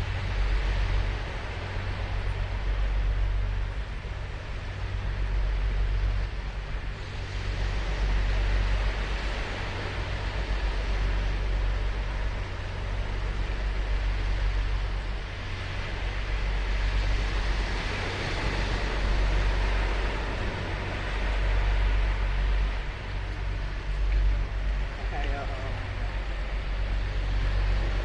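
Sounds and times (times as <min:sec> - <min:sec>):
deep low rumble: 0:00.0 - 0:28.0
ocean surf on beach: 0:00.0 - 0:28.0.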